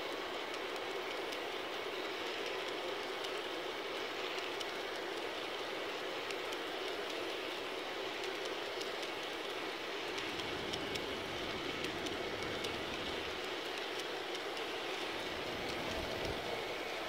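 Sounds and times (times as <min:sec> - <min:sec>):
faint irregular ticks: 0:00.0 - 0:17.0
model train wheels rolling on rails: 0:00.0 - 0:17.0.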